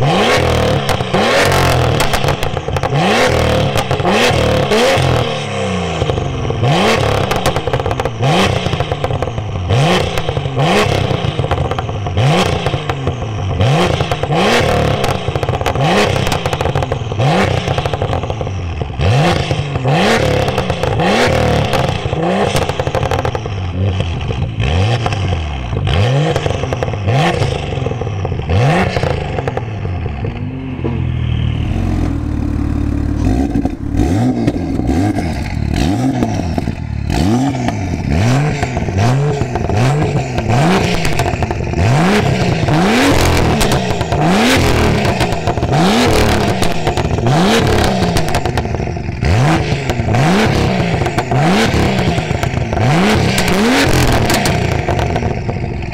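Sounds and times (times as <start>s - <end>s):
car engine revving: 0.0s - 55.9s
exhaust crackles and pops: 0.0s - 55.9s.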